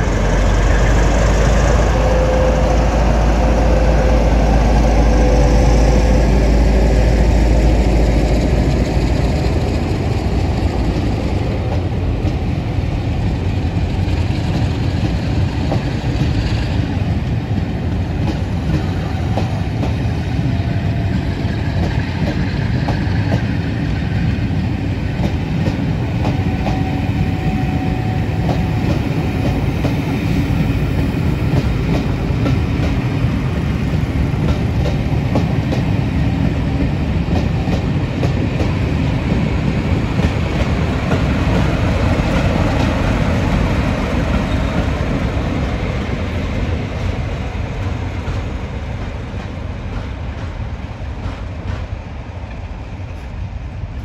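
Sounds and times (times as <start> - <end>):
passenger coaches rumbling: 0.0 - 54.0
train wheels clicking over rail joints: 7.4 - 53.4.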